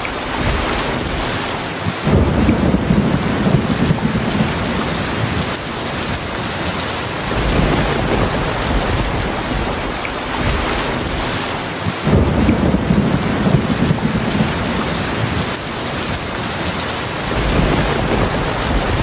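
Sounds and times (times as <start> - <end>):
heavy rain falling: 0.0 - 19.0
thunder rumbling: 0.0 - 19.0.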